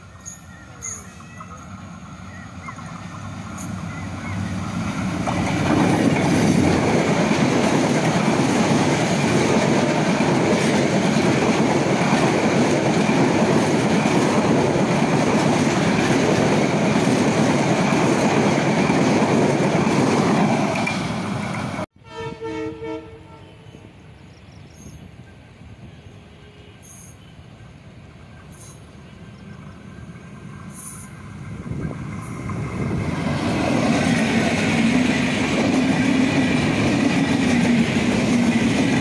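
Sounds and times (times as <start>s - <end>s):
passenger train passing at speed: 0.0s - 39.0s.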